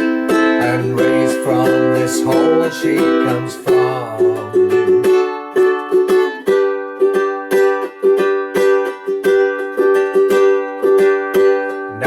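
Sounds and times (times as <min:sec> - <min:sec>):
ukulele strumming chords: 0:00.0 - 0:12.0.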